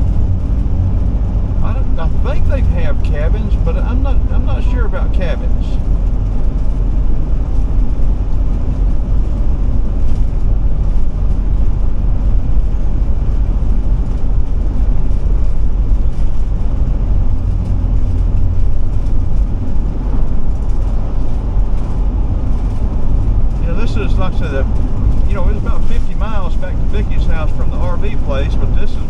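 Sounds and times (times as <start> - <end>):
motorhome engine droning: 0.0 - 29.0
road and tyre noise: 0.0 - 29.0.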